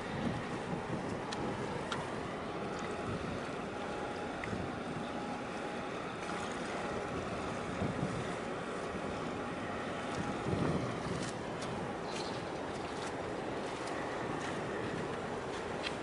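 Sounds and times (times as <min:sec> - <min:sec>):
ship rumbling: 0:00.0 - 0:16.0
wind buffeting microphone: 0:00.0 - 0:16.0.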